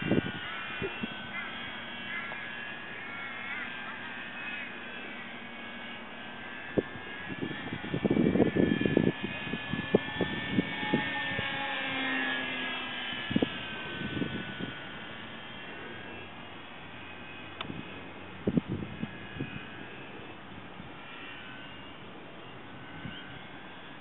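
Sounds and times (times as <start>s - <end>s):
rc plane motor whine: 0.0s - 24.0s.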